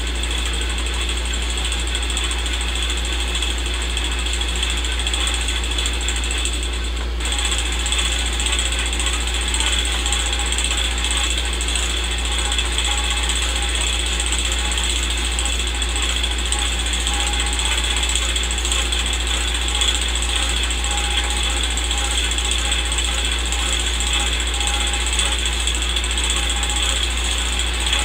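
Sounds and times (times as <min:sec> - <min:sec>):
film projector running: 0:00.0 - 0:28.0.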